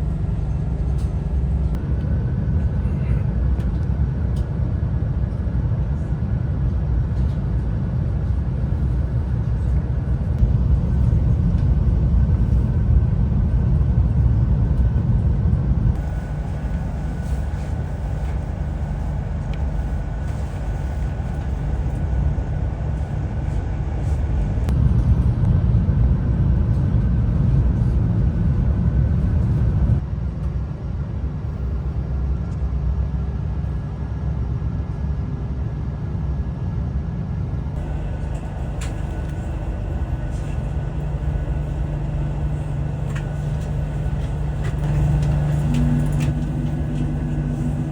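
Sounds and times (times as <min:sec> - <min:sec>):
vehicle interior rumble: 0:00.0 - 0:30.6, 0:37.4 - 0:47.9.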